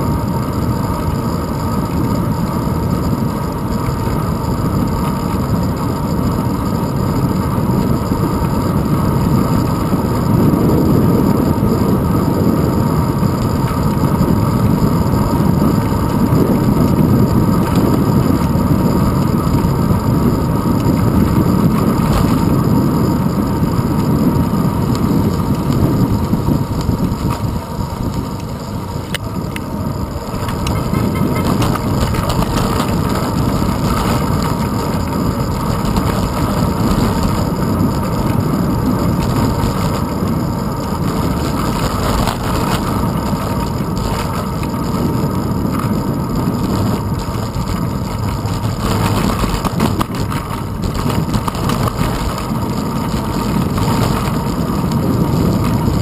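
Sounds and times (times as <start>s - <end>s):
bicycle road rumble: 0.0s - 56.0s
wind rush: 0.0s - 56.0s.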